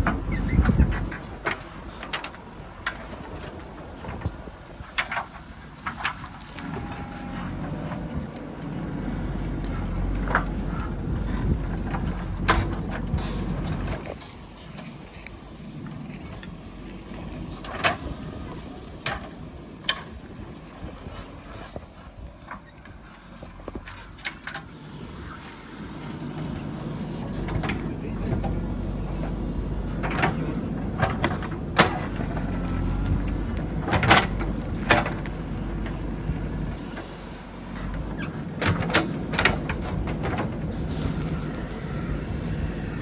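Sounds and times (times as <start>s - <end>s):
backhoe diesel engine running: 0.0s - 43.0s.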